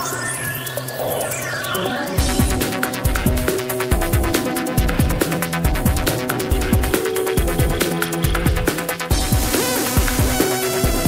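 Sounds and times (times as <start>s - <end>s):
sustained synth notes: 0.0s - 11.0s.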